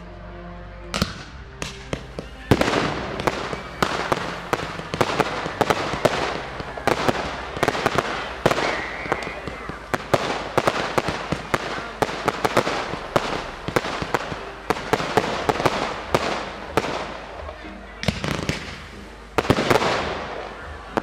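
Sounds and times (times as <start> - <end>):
fireworks bangs: 0.9 - 21.0
crackling hiss: 1.0 - 21.0.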